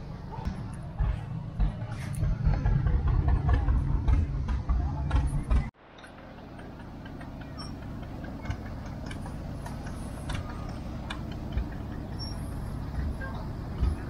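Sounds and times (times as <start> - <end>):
tractor engines running slowly: 0.0 - 14.0.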